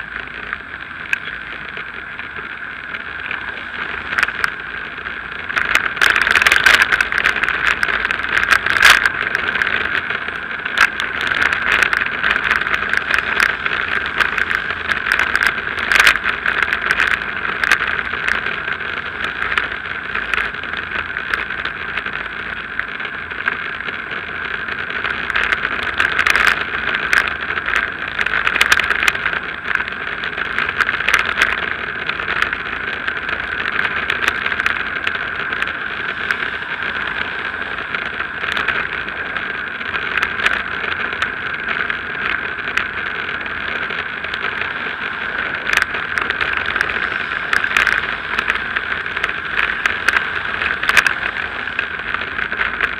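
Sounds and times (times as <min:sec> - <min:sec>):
wind and road noise: 0:00.0 - 0:52.9.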